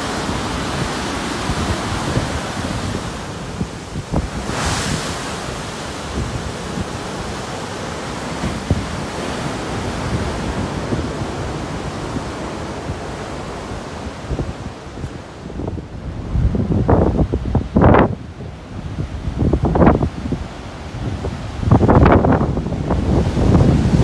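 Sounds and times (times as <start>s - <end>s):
heavy surf breaking: 0.0s - 24.0s
wind buffeting microphone: 0.0s - 24.0s.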